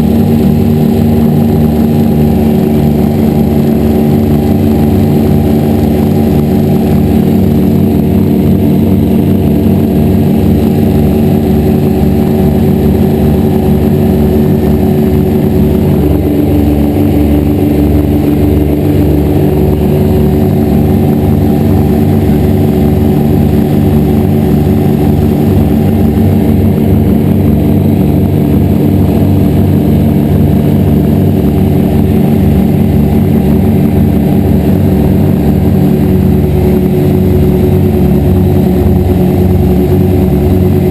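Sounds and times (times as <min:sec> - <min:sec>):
piston aircraft engines throbbing: 0:00.0 - 0:40.9.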